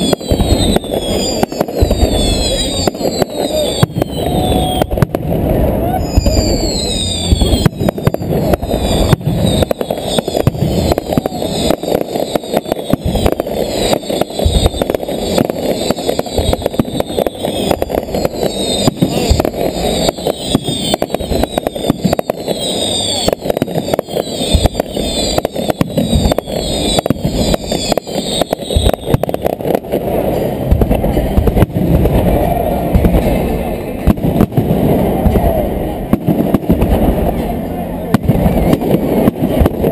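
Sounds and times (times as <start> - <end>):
fireworks bangs and crackles: 0.0 - 39.9
high falling firework whistles: 0.0 - 39.9.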